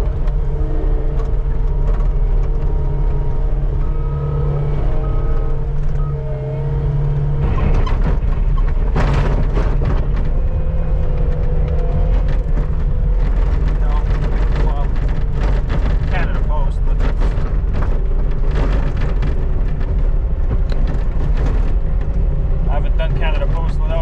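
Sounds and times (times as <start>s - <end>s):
skid steer engine running: 0.0s - 24.0s.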